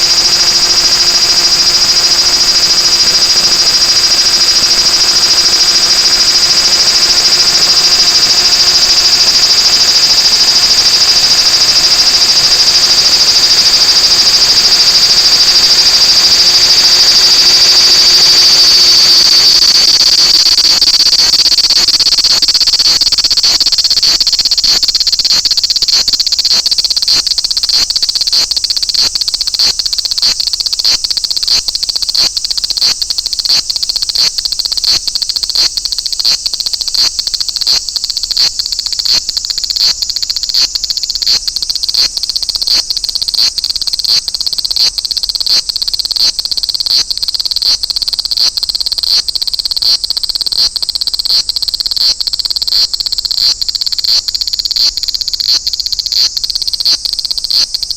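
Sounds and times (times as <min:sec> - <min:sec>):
cicada buzzing: 0:00.0 - 0:57.9.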